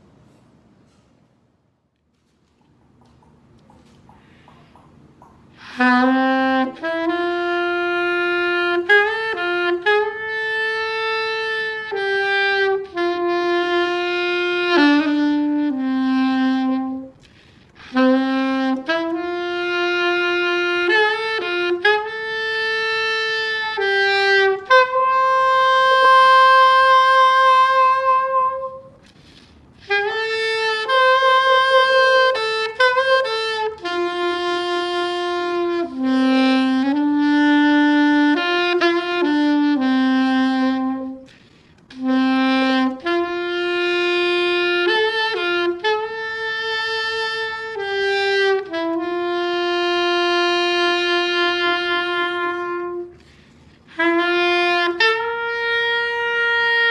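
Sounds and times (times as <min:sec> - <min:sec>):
solo saxophone melody: 0:03.8 - 0:56.9.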